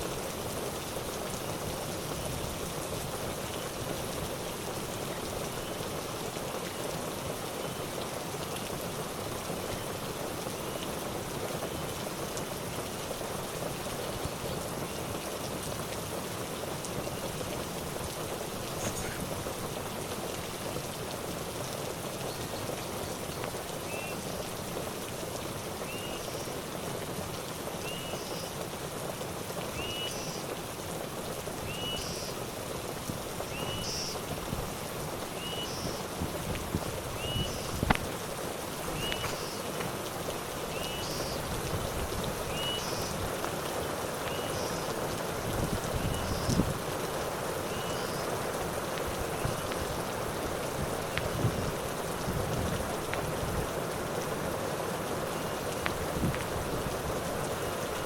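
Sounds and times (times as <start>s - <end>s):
rain-like noise: 0.0s - 58.0s.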